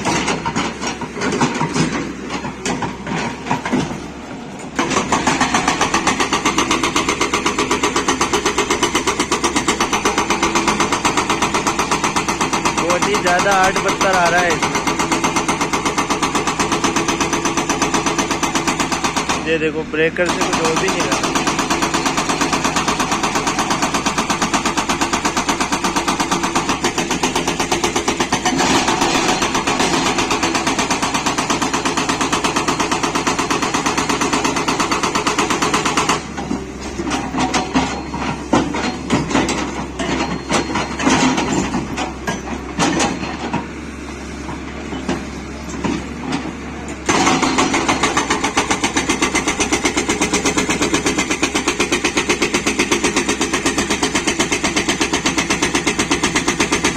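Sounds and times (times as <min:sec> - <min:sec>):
hydraulic breaker hammering stone: 0:00.0 - 0:43.8, 0:44.4 - 0:56.9
excavator engine: 0:00.0 - 0:56.9.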